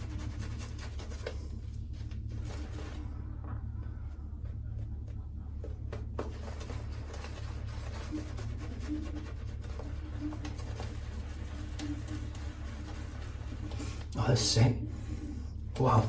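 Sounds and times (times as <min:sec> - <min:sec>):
shaving brush scrubbing lather: 0:00.0 - 0:03.3, 0:04.0 - 0:16.0
low hum: 0:00.0 - 0:16.0.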